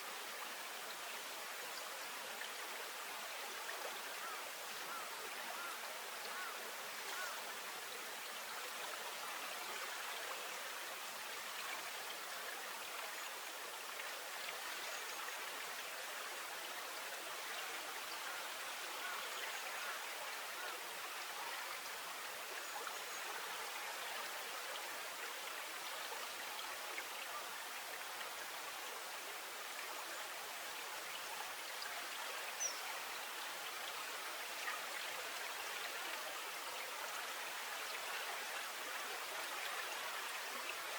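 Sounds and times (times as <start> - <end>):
flowing river water: 0.0 - 40.9.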